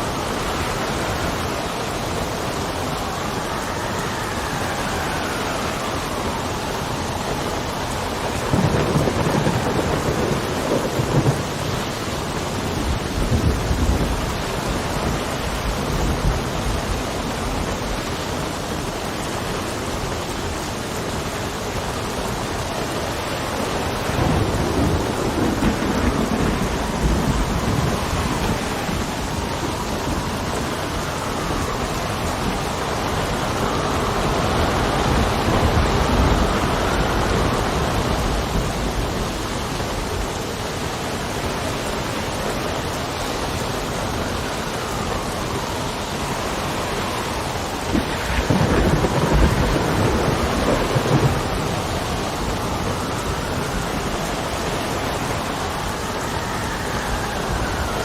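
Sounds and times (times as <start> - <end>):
heavy rain: 0.0 - 58.0
wind gusting: 0.0 - 58.0.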